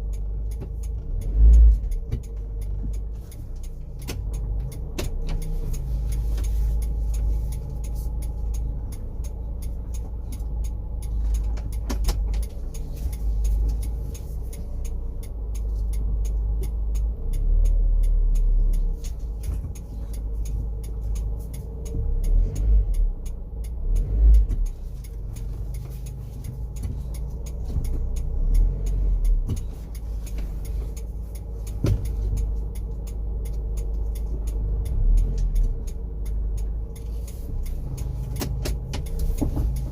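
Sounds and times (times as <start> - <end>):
car engine rumble and whine: 0.0 - 39.9.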